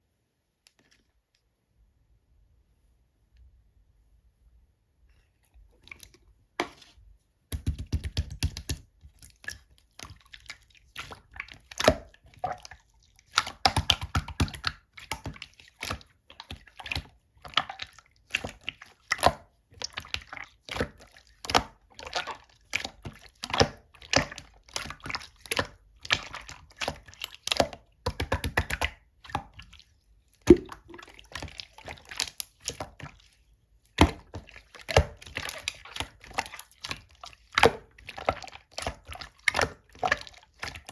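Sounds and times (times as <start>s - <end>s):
slime squishing by hand: 5.8s - 40.9s.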